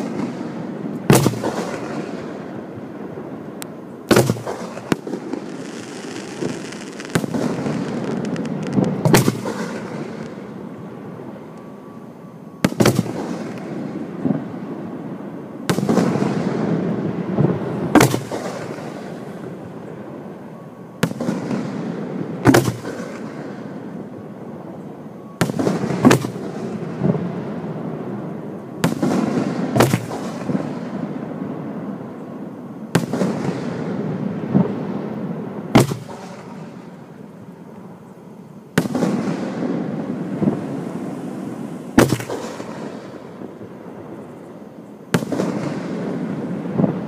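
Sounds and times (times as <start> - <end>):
fireworks bangs: 0.0 - 11.6, 12.6 - 15.0, 15.6 - 20.2, 25.4 - 32.0, 32.9 - 37.4, 38.8 - 47.0.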